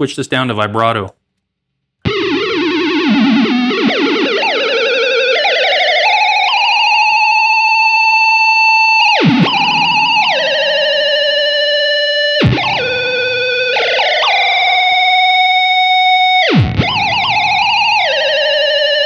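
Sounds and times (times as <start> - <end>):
buzzy synth guitar tones: 2.0 - 19.0.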